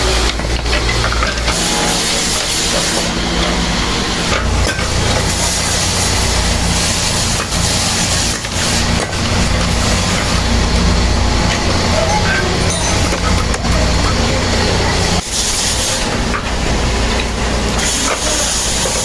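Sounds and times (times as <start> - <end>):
woodworking machinery humming: 0.0 - 19.0.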